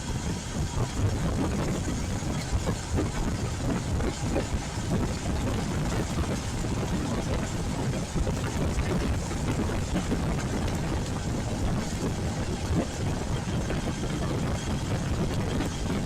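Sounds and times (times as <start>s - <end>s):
rushing wind and road noise: 0.0s - 16.0s.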